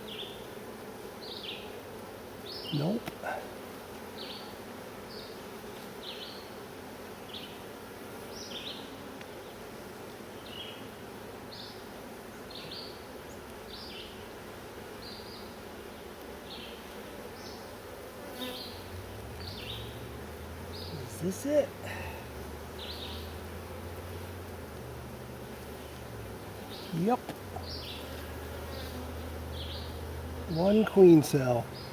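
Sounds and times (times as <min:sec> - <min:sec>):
bees buzzing: 0:00.0 - 0:31.9.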